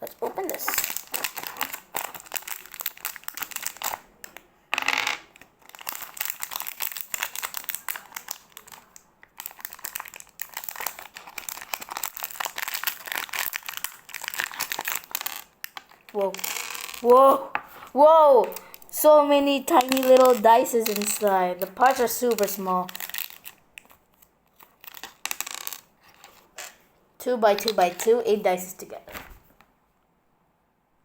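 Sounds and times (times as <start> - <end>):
plastic packaging crinkling: 0.0 - 4.3, 5.4 - 17.1, 17.7 - 26.8, 27.4 - 29.6.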